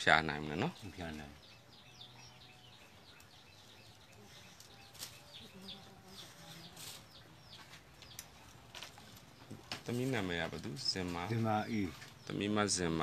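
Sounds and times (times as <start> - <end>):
high chirps of small birds: 0.0 - 13.0.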